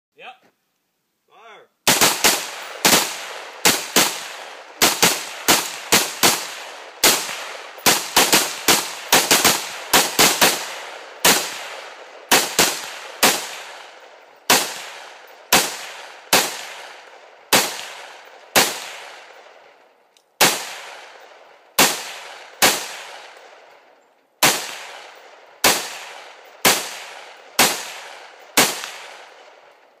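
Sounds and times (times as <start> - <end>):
rifle shots with echo: 1.8 - 30.0.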